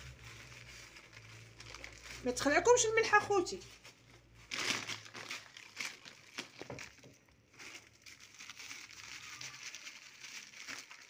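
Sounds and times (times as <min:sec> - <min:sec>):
plastic sack rustling: 0:00.0 - 0:11.0.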